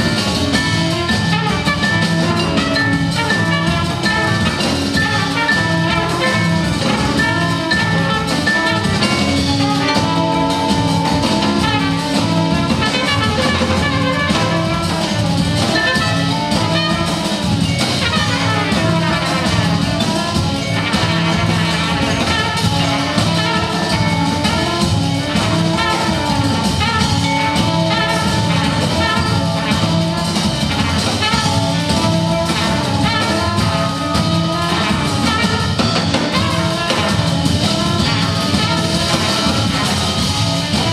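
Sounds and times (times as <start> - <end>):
jazz ensemble playing: 0.0 - 40.9.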